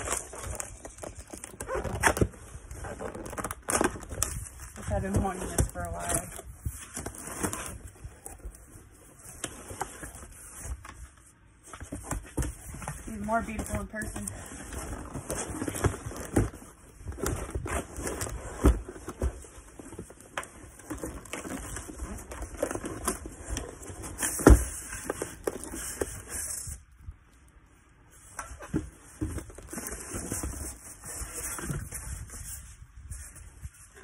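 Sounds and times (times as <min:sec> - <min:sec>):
cardboard packaging rustling: 0:00.0 - 0:34.0.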